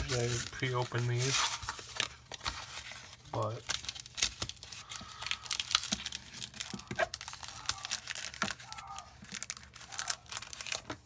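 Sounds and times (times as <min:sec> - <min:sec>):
crinkly packaging tearing: 0:00.0 - 0:11.0.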